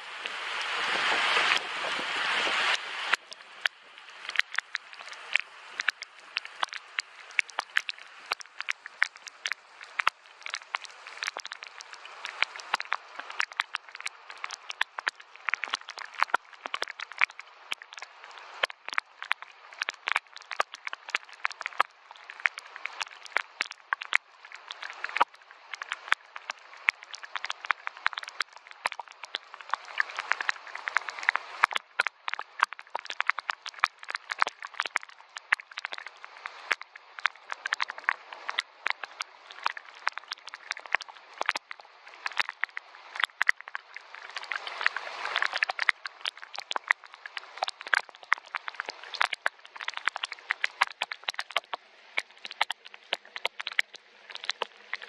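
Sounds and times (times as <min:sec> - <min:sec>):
raindrops tapping: 0:02.2 - 0:55.0.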